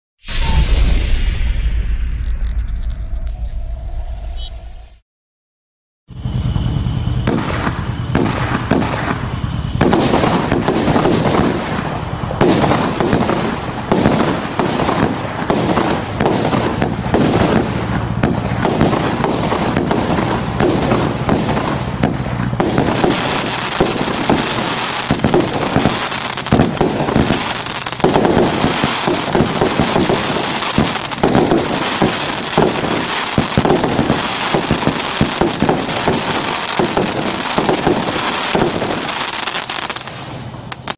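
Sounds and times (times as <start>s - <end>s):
firework bursts: 0.2s - 4.5s, 6.1s - 40.9s
firework crackle: 0.2s - 4.5s, 6.2s - 40.9s.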